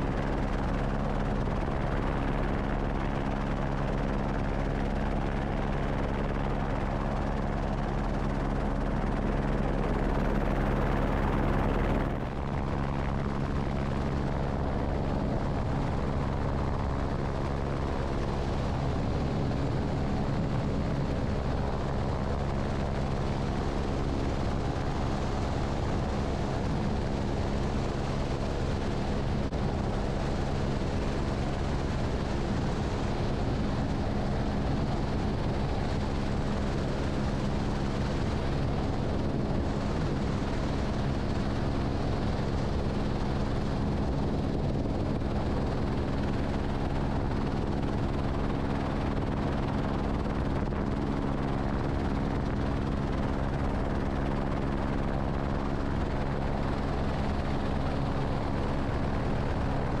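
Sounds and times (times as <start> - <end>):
helicopter drone: 0.0 - 60.0.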